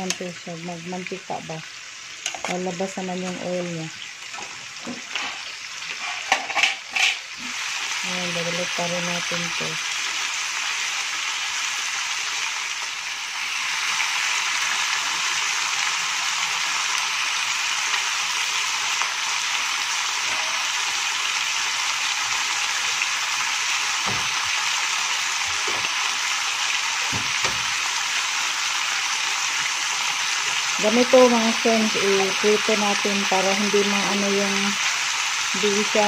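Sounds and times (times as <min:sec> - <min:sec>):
chicken sizzling in oil: 0:00.0 - 0:36.0.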